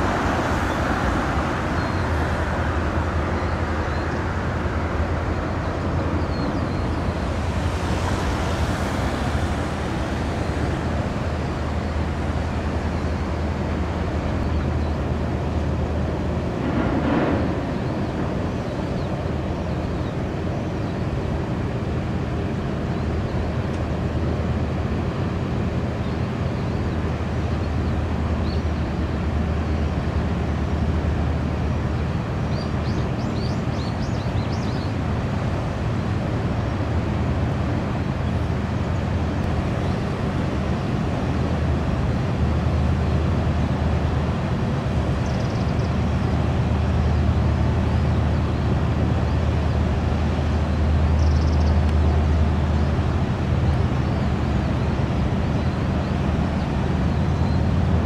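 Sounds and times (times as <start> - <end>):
ship engines droning: 0.0 - 58.0.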